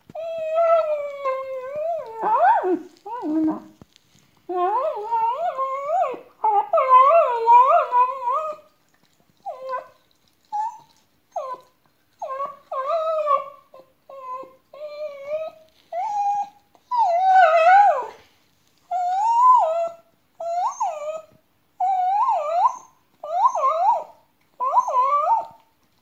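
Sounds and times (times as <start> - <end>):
dog whining and crying: 0.1 - 3.8, 4.5 - 8.7, 9.4 - 18.2, 18.9 - 25.6.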